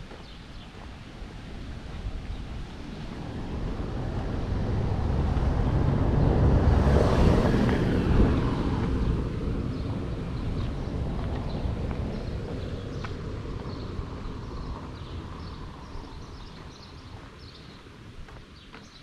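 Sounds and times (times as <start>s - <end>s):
vehicle passing by: 1.5s - 18.2s.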